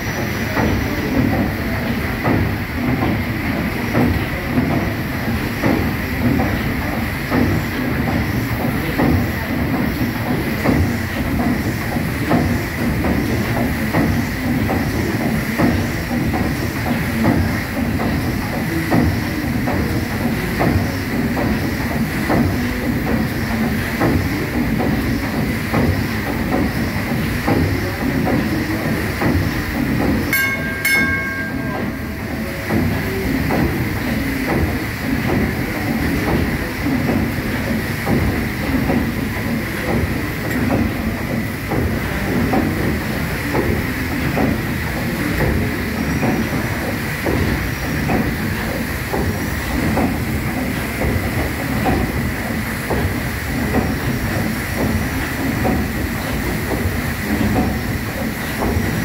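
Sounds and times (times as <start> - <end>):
steam engine running rhythmically: 0.0 - 59.0.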